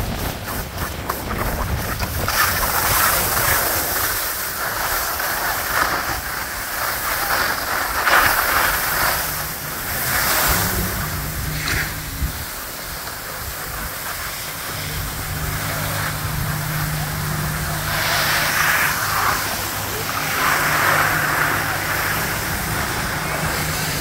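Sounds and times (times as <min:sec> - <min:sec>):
skis scraping on snow: 0:00.0 - 0:24.0
wind on microphone: 0:00.0 - 0:24.0.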